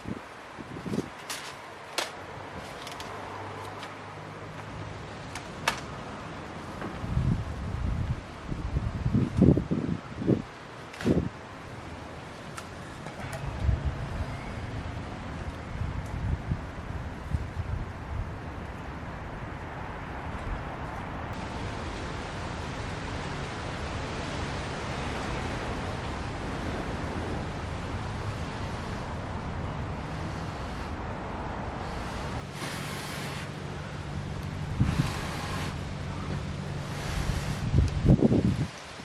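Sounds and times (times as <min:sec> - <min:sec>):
wind on microphone: 0:00.0 - 0:01.4, 0:06.7 - 0:11.9, 0:12.7 - 0:39.0.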